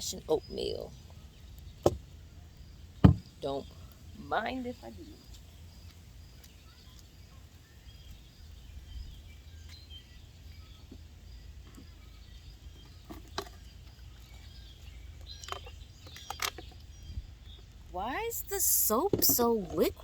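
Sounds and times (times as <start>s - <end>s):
insect calls: 0.0s - 20.0s.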